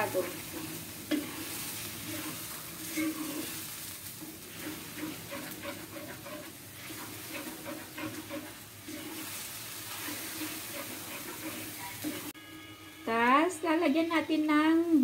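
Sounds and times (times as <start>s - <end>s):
metal ladle scraping wok: 0.0s - 12.4s
spice paste sizzling in oil: 0.0s - 12.4s.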